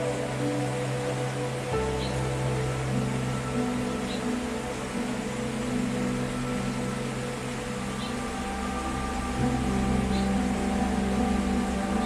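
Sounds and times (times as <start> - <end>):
flowing river water: 0.0 - 12.0
slow sustained music tones: 0.0 - 12.0.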